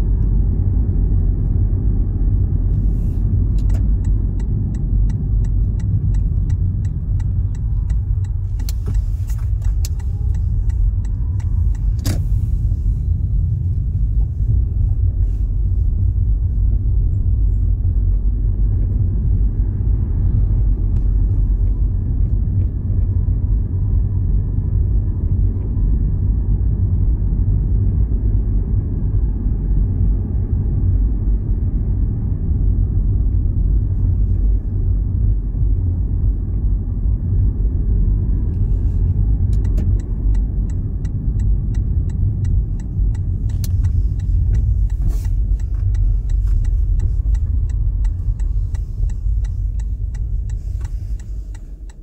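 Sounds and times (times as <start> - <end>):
low rumble: 0.0 - 52.0.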